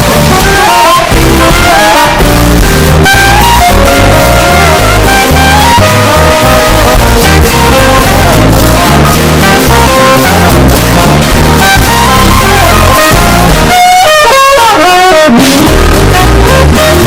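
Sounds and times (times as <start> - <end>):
music with guitar and bass: 0.0 - 17.0.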